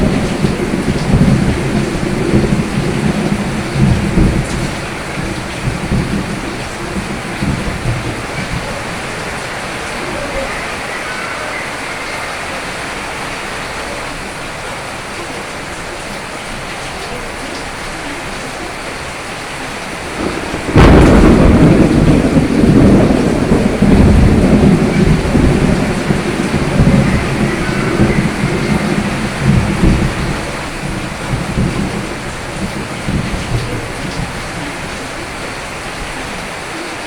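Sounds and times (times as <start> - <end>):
thunder crack and rumbles: 0.0 - 15.4, 18.8 - 37.0
steady rain falling: 0.0 - 37.0.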